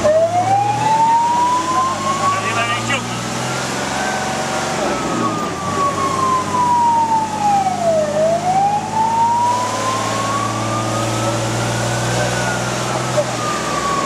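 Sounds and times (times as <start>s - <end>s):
diesel truck engine: 0.0s - 14.0s
fire engine siren wailing: 0.0s - 14.0s.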